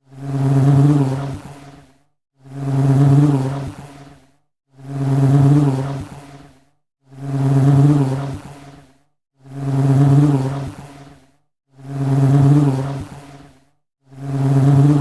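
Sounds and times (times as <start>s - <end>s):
honey bee buzzing in flight: 0.1s - 15.0s.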